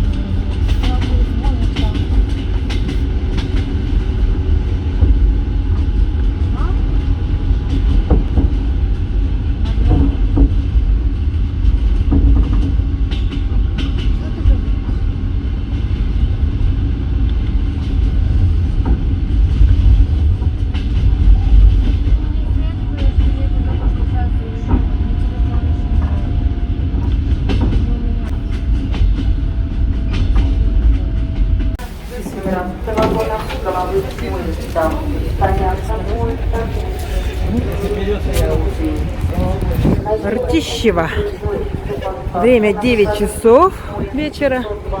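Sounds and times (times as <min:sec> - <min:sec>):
train knocks: 0:00.0 - 0:45.0
train wheels rumbling on rails: 0:00.0 - 0:45.0.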